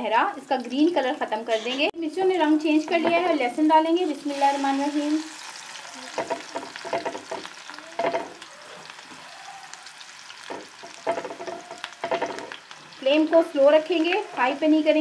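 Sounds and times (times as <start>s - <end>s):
garlic sizzling in hot fat: 0.0s - 15.0s.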